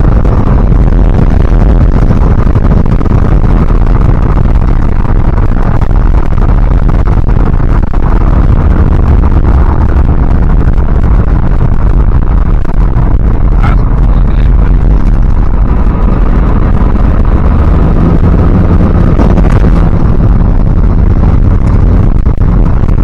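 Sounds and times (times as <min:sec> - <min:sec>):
moving vehicle rumble: 0:00.0 - 0:23.0.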